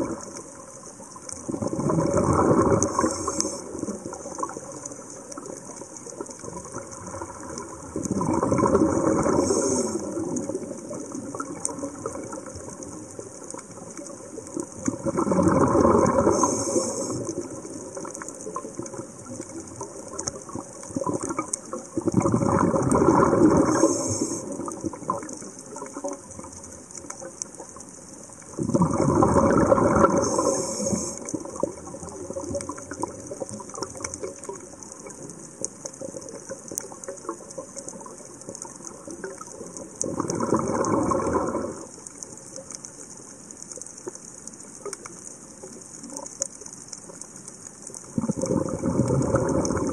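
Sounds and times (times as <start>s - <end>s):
underwater breath bubbles: 0.0s - 27.2s, 28.4s - 42.8s, 48.0s - 49.9s
faint steady crackle: 0.0s - 49.9s.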